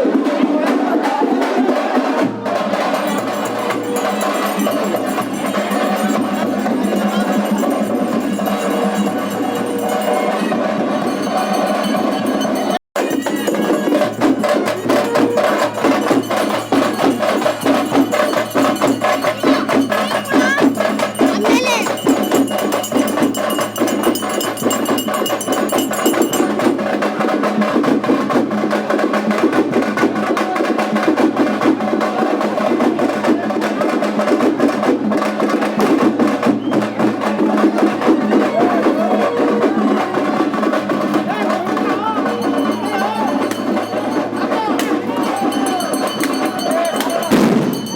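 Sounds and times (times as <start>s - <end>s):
fast percussion music: 0.0s - 47.9s.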